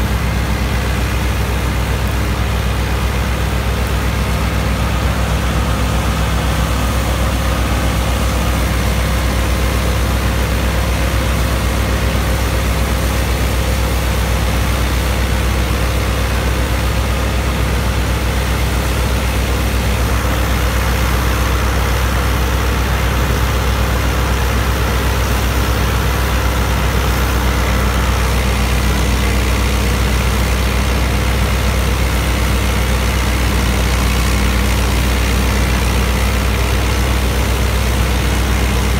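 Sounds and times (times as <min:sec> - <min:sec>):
tractor engine and straw chopper drone: 0:00.0 - 0:38.9.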